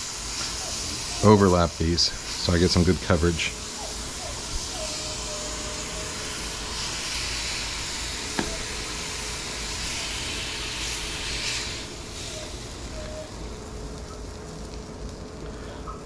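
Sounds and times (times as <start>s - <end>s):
burger patties sizzling on griddle: 0.0s - 16.0s.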